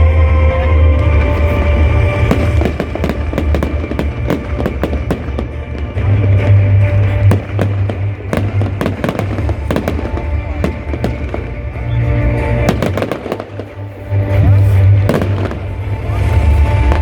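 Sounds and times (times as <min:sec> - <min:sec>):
deep continuous rumble: 0:00.0 - 0:17.0
fireworks bangs and crackles: 0:00.0 - 0:17.0.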